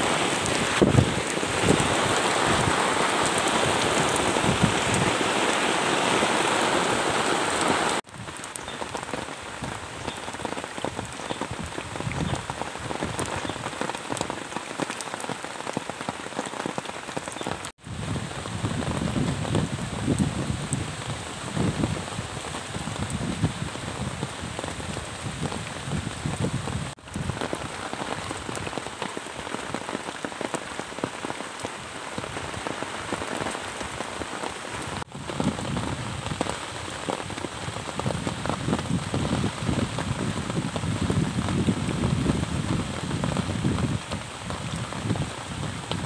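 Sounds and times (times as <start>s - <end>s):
rain falling on puddles: 0.0s - 46.0s.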